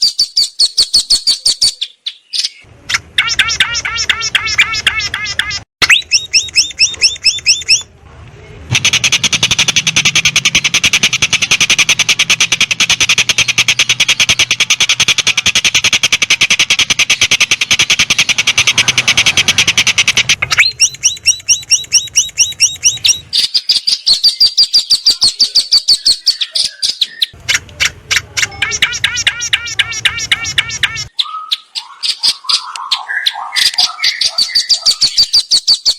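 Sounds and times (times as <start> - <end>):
songbird calls: 0.0 - 7.9, 8.7 - 35.9.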